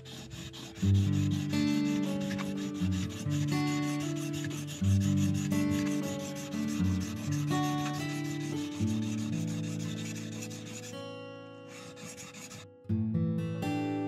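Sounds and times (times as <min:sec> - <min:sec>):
knife scraping on whetstone: 0:00.0 - 0:10.9, 0:11.7 - 0:12.6
light plucked background music: 0:00.0 - 0:14.0.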